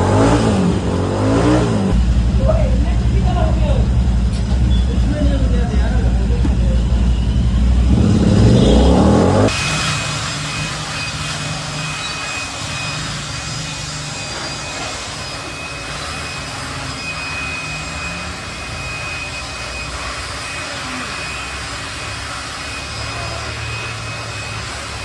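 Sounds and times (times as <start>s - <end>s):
engine revving: 0.0s - 25.0s
faint high whine: 1.9s - 25.0s.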